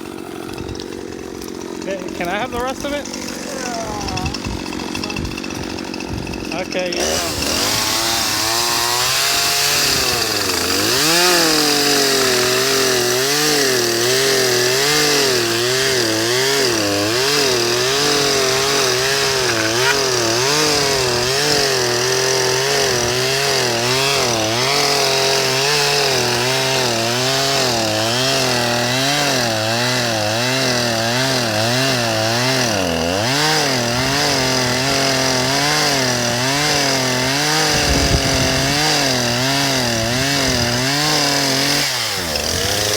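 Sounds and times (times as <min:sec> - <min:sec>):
chainsaw engine wavering: 0:00.0 - 0:42.9.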